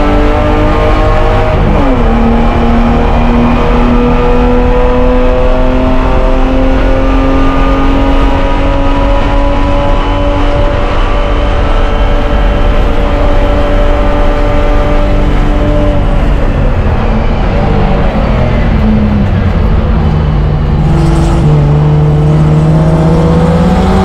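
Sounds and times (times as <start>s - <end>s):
race car engine at full throttle: 0.0s - 24.0s.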